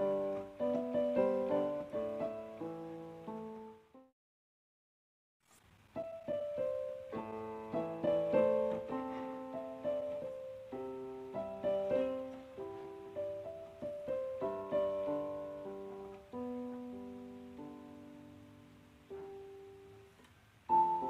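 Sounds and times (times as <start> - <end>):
slow piano music: 0.0 - 4.1, 6.0 - 21.0.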